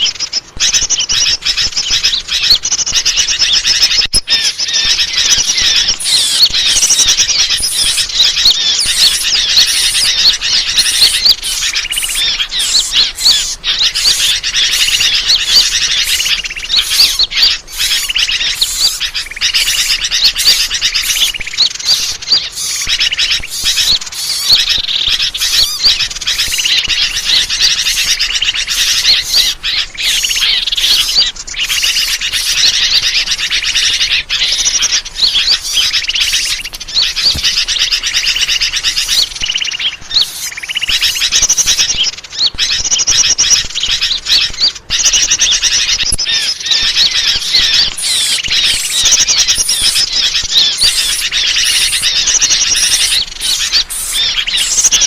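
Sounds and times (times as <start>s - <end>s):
small birds chattering and chirping: 0.0s - 55.0s.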